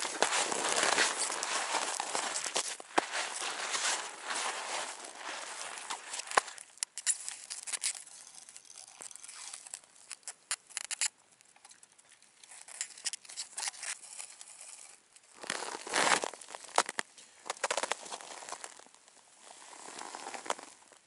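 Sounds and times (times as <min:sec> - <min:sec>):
crunching snow: 0:00.0 - 0:11.2, 0:12.5 - 0:21.0
crinkling handling noise: 0:00.0 - 0:21.0.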